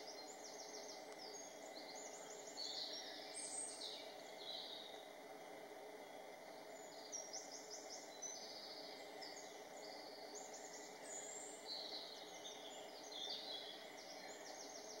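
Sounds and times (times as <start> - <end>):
low background hum: 0.0 - 15.0
songbirds chirping and trilling: 0.0 - 15.0.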